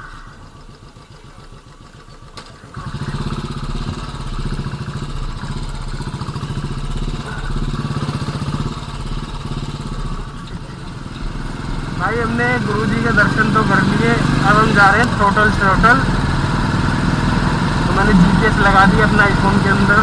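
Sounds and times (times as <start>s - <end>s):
single-cylinder engine pulsing: 0.0s - 20.0s.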